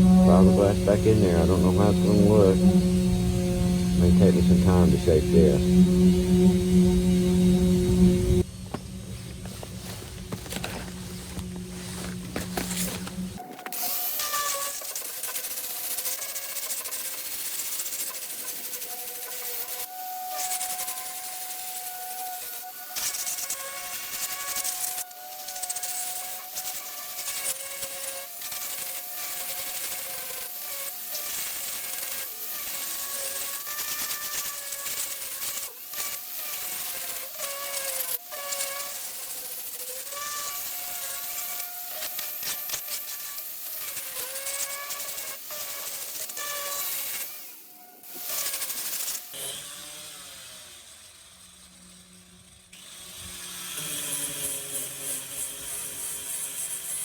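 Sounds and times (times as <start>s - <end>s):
power sander whining: 0.0s - 52.0s.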